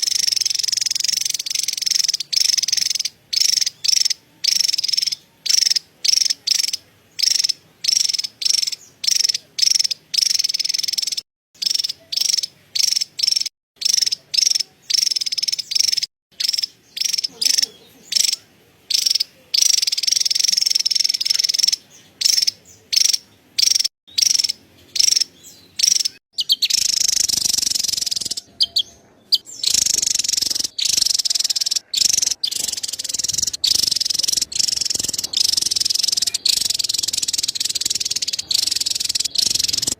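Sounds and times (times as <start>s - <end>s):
bird chattering: 0.0s - 39.9s.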